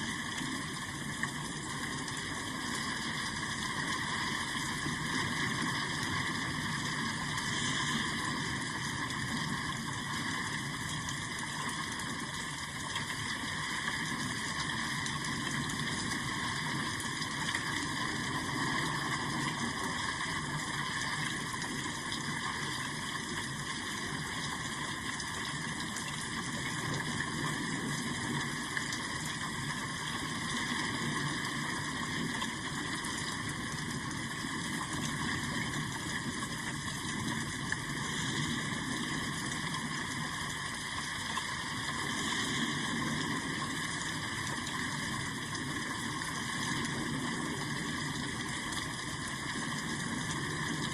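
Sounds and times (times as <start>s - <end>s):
patter of raindrops: 0.0s - 50.9s
steady rain hiss: 0.0s - 50.9s.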